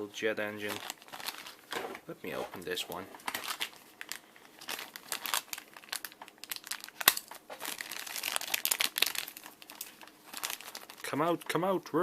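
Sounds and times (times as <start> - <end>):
plastic packaging crinkling: 0.4 - 11.8.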